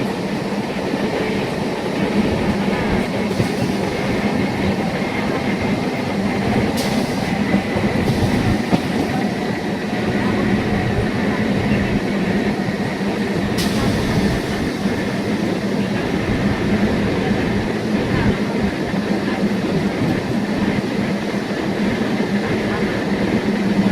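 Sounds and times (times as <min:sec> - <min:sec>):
electric train rumbling: 0:00.0 - 0:23.9.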